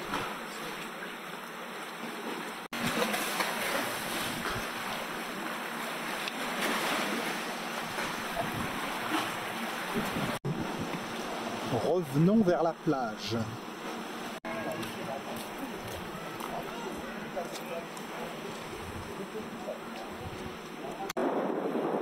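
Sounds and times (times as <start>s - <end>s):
waves breaking and washing: 0.0s - 22.0s.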